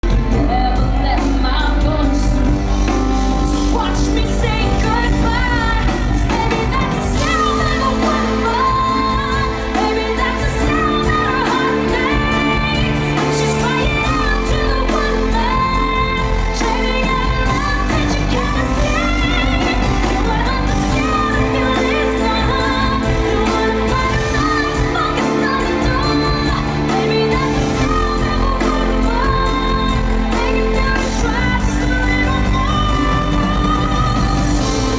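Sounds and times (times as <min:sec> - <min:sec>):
live band playing pop: 0:00.0 - 0:34.9
woman singing: 0:00.0 - 0:34.9.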